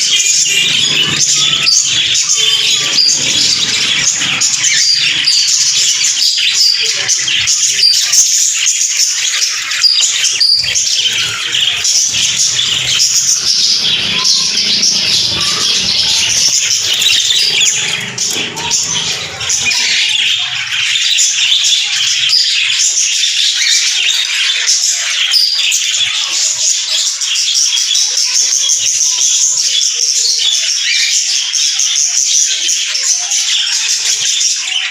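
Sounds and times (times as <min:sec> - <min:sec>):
parrots chattering and chirping: 0:00.0 - 0:34.9.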